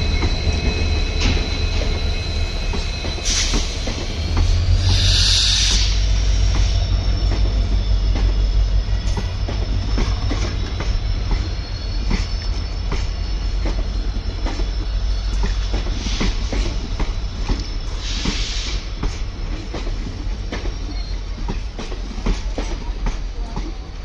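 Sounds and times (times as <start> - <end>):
high squeal from wheels: 0.0 - 23.8
train rumble: 0.0 - 24.0.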